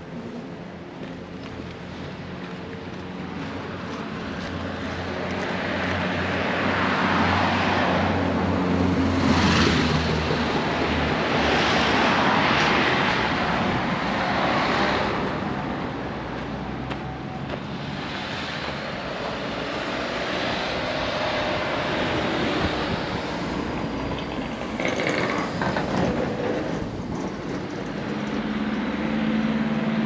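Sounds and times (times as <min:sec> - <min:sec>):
cars passing close by: 0:00.0 - 0:30.0.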